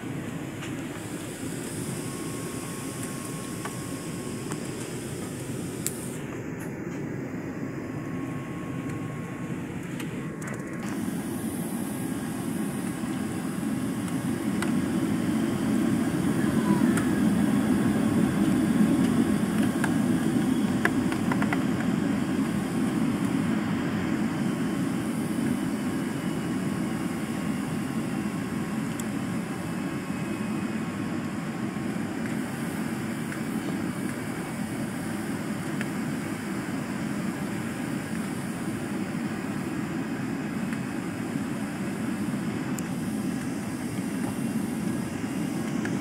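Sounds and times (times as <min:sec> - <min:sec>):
faint high whine: 0:00.0 - 0:46.0
jet engine and airflow rumble: 0:00.0 - 0:46.0.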